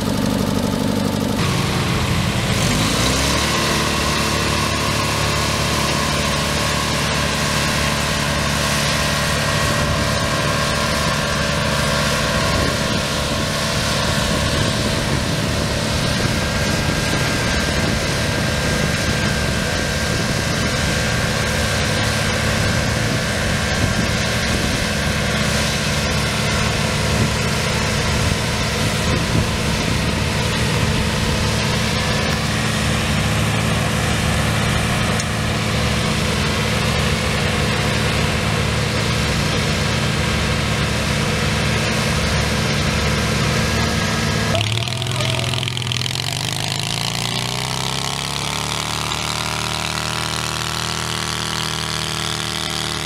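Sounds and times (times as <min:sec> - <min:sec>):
small tractor engine running: 0:00.0 - 0:53.0.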